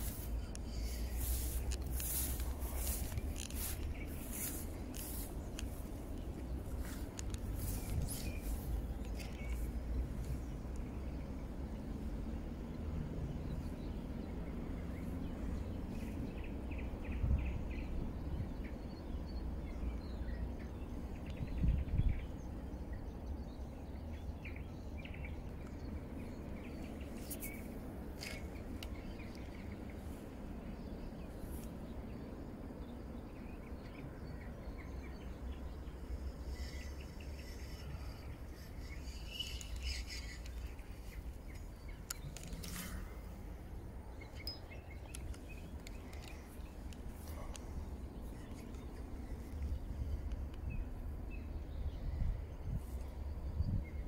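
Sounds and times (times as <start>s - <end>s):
birds chirping faintly: 0.0s - 54.0s
steady low rumble: 0.0s - 54.0s.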